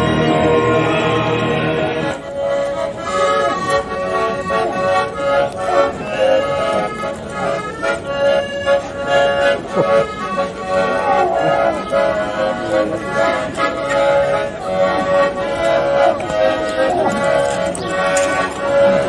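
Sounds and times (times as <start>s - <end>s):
accordion playing a tune: 0.0s - 19.0s.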